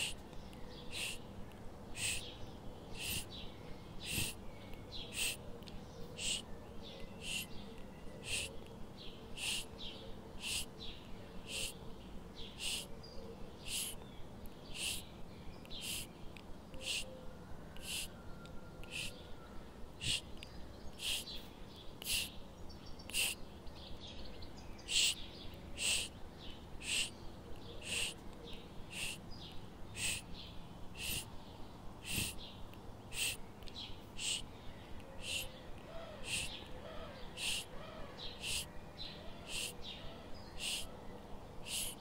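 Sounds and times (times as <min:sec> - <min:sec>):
bird chirping: 0:00.0 - 0:42.0.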